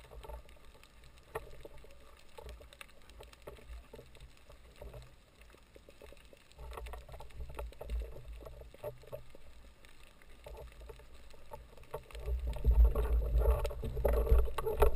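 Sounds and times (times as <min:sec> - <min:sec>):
crackles: 0:00.0 - 0:14.9
muffled underwater water movement: 0:00.0 - 0:14.9.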